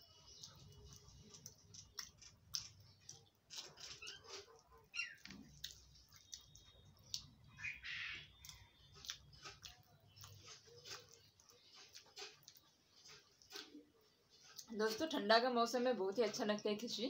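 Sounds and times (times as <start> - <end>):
wet mouth chewing sounds: 0.0 - 15.0.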